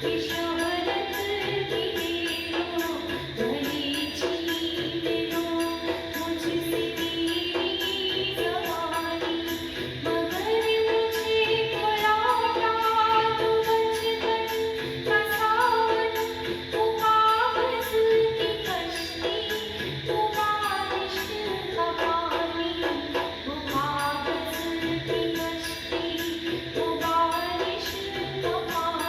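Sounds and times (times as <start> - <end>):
light percussion beat: 0.0 - 29.0.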